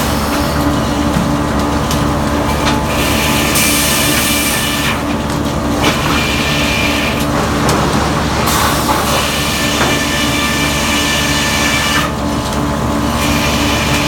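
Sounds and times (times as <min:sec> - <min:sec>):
sawmill machinery humming: 0:00.0 - 0:14.0.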